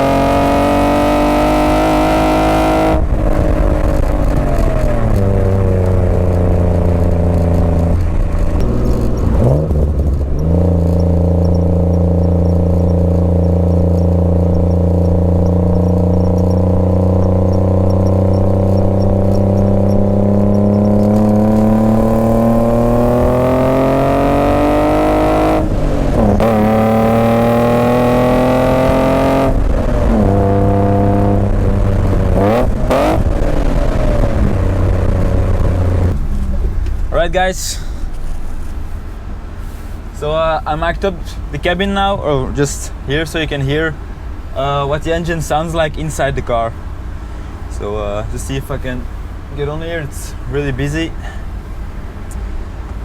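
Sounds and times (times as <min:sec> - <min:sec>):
car engine revving while driving: 0:00.0 - 0:53.0.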